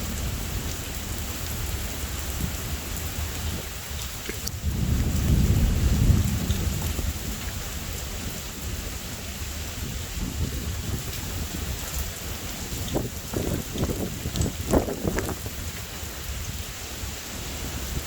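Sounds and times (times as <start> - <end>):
low rumble of thunder: 0.0 - 16.7
steady rain falling: 0.0 - 18.0.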